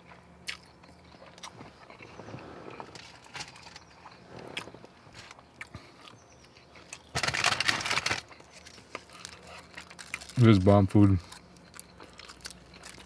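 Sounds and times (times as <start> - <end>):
chewing with wet clicks: 0.0 - 2.9, 3.5 - 7.1, 8.2 - 13.0.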